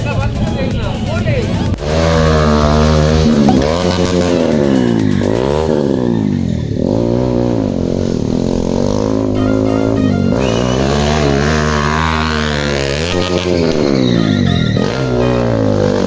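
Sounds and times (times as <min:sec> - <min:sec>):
motorcycle engine revving: 0:01.6 - 0:16.0.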